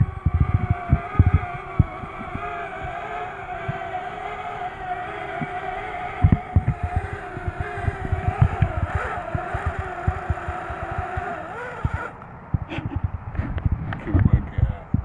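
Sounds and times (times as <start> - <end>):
drone motors whining: 0.0 - 15.0
wind buffeting microphone: 0.0 - 15.0.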